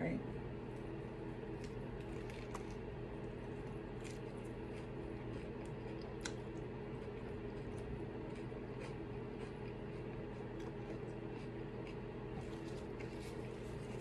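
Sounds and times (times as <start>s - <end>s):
person chewing: 1.5s - 14.0s.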